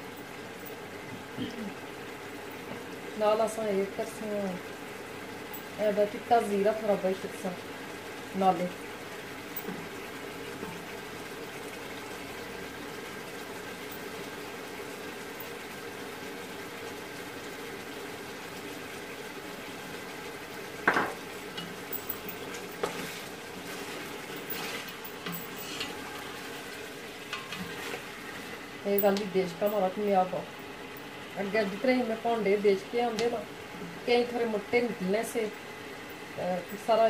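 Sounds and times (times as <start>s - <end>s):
meat sizzling in a pot: 0.0s - 37.0s.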